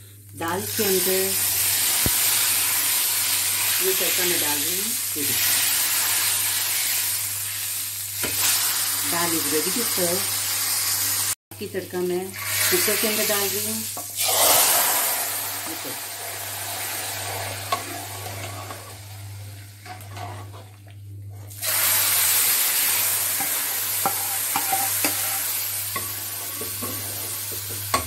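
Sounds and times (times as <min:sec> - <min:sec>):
hot oil sizzling: 0:00.4 - 0:11.4, 0:12.3 - 0:20.1, 0:21.4 - 0:28.0.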